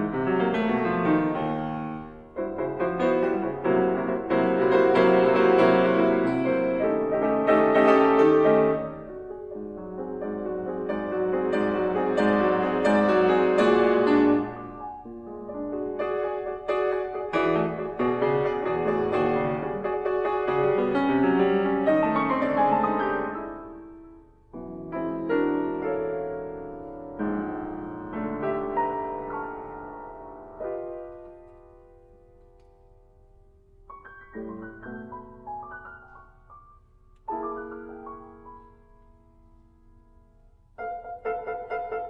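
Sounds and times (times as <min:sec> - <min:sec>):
solo grand piano: 0:00.0 - 0:42.0.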